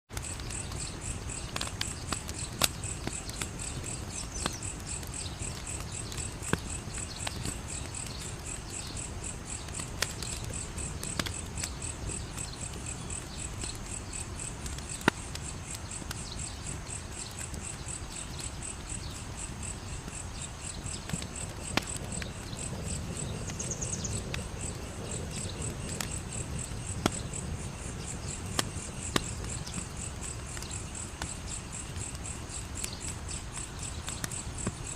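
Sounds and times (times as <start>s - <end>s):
insects chirping: 0.1s - 34.9s
wood fire crackling and popping: 0.1s - 34.9s.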